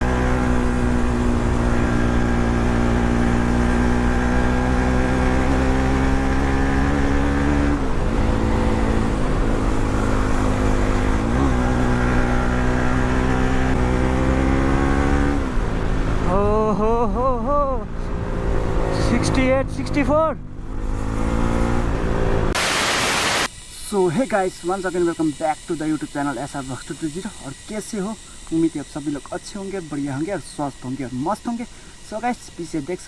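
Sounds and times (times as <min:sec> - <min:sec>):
motorcycle engine revving: 0:00.0 - 0:16.8, 0:17.5 - 0:23.7, 0:24.4 - 0:33.0.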